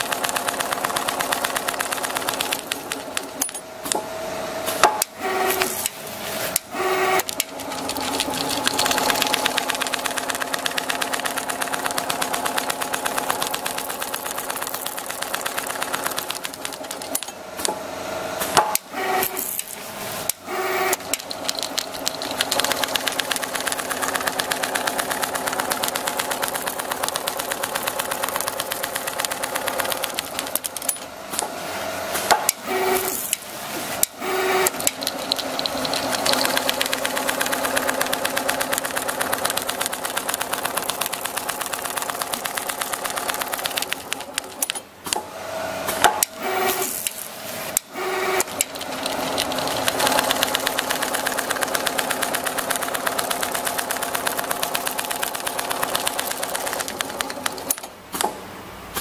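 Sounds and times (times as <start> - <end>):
sewing machine needle chatter: 0.0 - 3.6, 6.6 - 17.4, 19.0 - 31.0, 32.6 - 44.8, 47.8 - 57.9.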